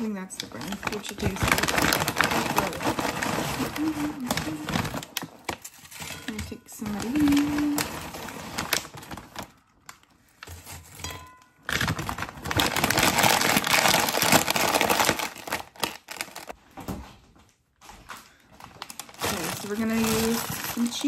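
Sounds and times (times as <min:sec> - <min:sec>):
snack bag crinkling: 0:00.0 - 0:06.2, 0:06.8 - 0:10.6, 0:11.7 - 0:16.6, 0:18.3 - 0:21.0.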